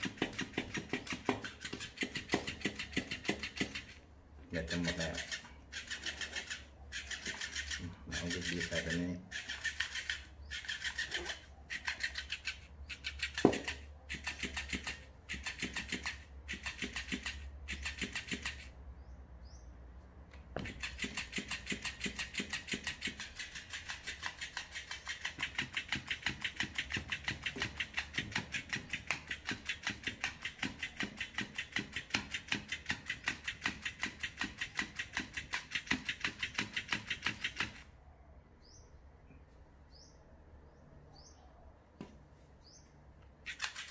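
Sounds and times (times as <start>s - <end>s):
toy tail flapping on wooden table: 0.0s - 4.0s, 4.7s - 18.7s, 20.4s - 37.9s, 43.4s - 43.9s.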